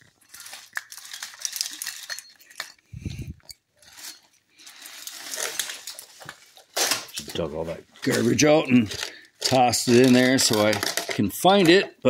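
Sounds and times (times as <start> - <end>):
hard objects clinking and clattering: 0.0 - 7.4, 8.0 - 12.0.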